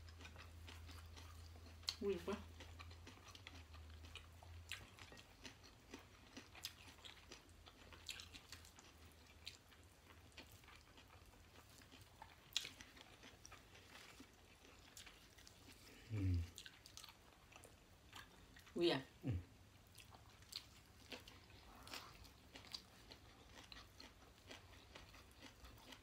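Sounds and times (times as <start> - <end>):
people chewing food: 0.0 - 26.0.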